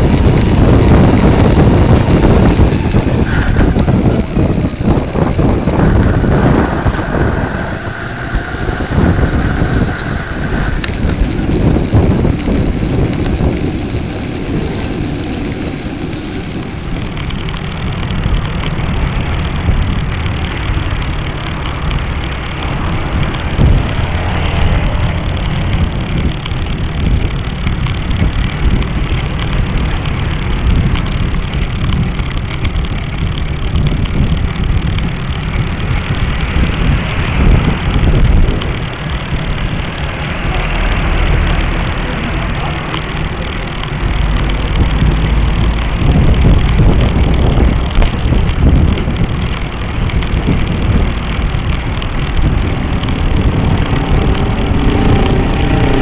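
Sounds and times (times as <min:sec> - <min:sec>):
road vibration rumble: 0:00.0 - 0:56.0
wind buffeting microphone: 0:00.0 - 0:56.0.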